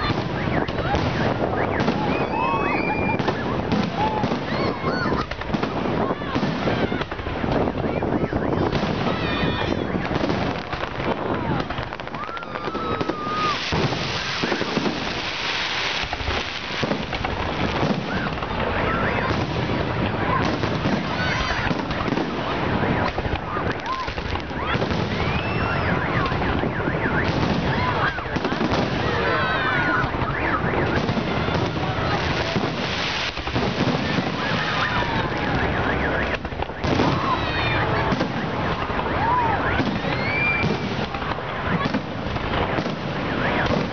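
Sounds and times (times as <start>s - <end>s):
firework bangs and crackling: 0.0s - 43.9s
firework whistles: 0.0s - 43.9s.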